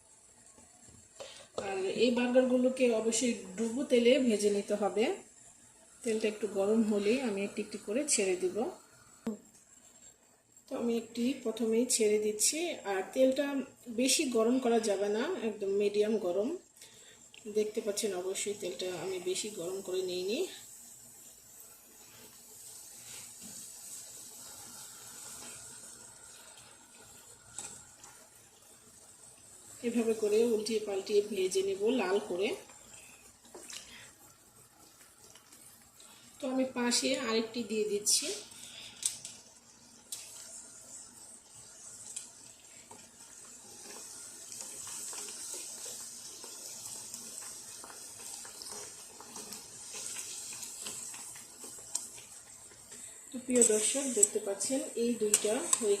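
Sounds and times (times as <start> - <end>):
dough sizzling in oil: 0.0 - 56.0.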